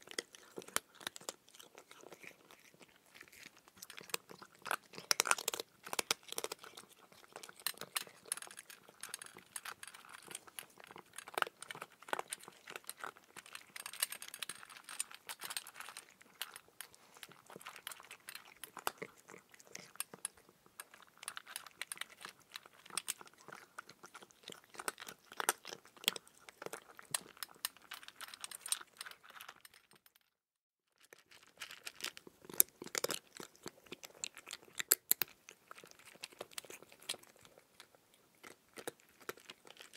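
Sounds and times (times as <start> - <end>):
cat crunching dry food: 0.0 - 30.3, 31.0 - 39.9.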